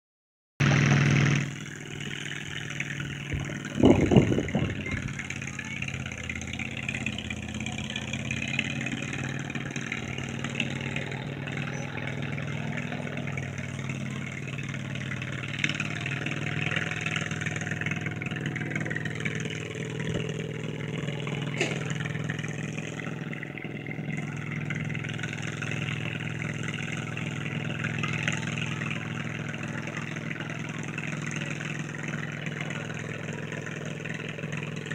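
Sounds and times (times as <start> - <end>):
tractor engine running: 0.6 - 34.9.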